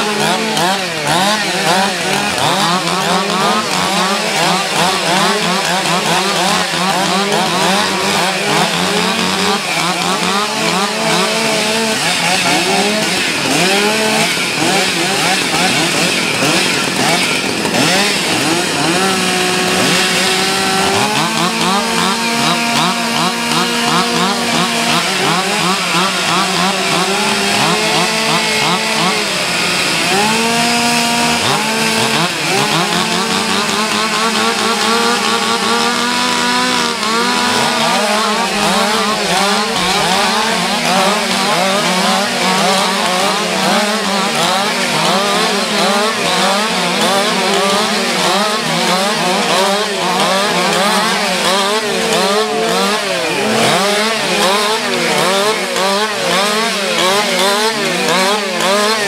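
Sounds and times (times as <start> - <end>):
chainsaws revving: 0.0 - 59.0.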